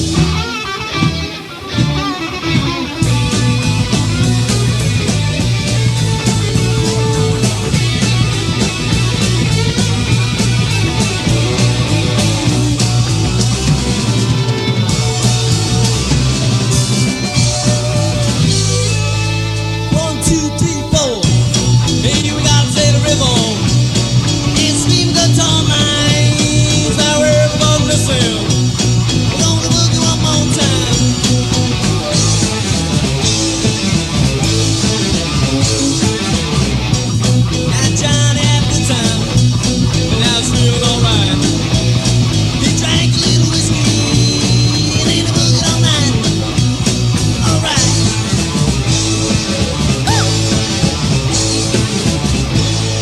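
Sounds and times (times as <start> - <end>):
bass guitar: 0.0 - 53.0
drums with cymbal crashes: 0.0 - 53.0
electric guitar: 0.0 - 53.0
rock band playing: 0.0 - 53.0.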